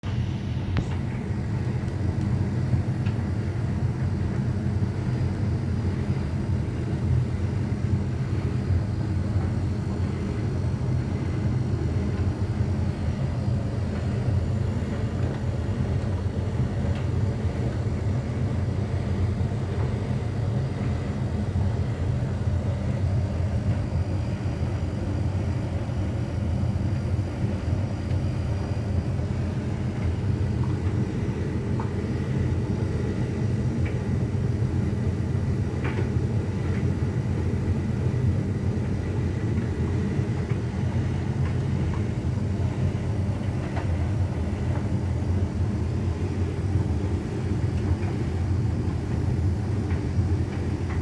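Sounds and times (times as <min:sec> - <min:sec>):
tumble dryer humming and rumbling: 0:00.0 - 0:51.0.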